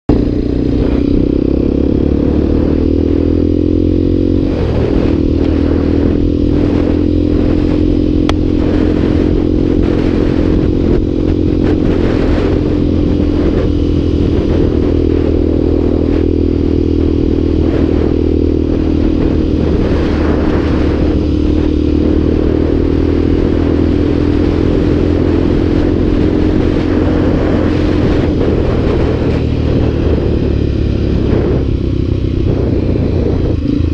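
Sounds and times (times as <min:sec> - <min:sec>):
low road rumble: 0:00.1 - 0:33.9
motorcycle engine running: 0:00.1 - 0:33.9.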